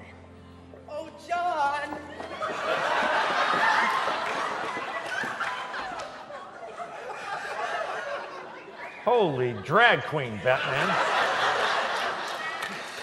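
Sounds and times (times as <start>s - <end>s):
audience laughing: 2.2s - 13.0s.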